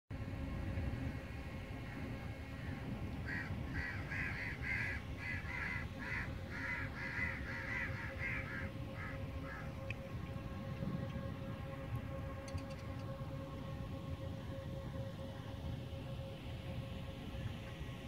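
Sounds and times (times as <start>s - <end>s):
low background rumble: 0.1s - 18.0s.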